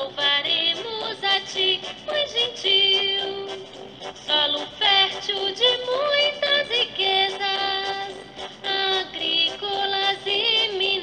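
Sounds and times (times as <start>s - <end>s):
person singing anthem with music: 0.0s - 11.0s.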